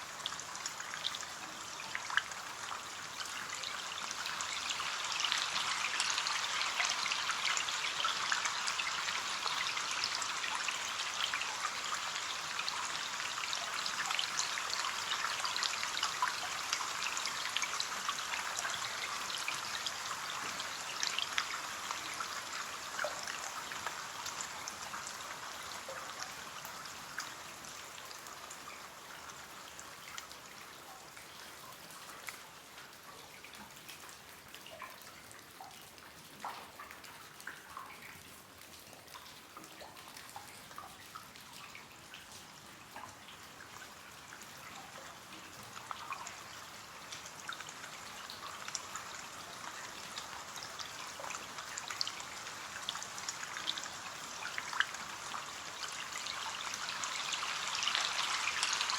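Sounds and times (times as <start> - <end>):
rain on a window: 0.0 - 58.9.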